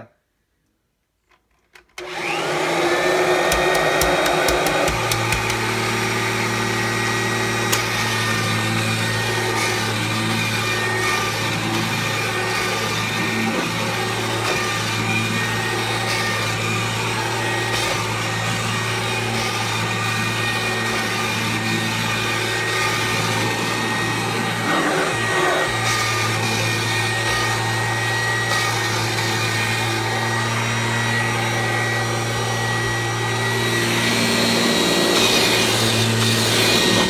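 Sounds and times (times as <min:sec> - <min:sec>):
vacuum cleaner running: 0:02.0 - 0:37.0.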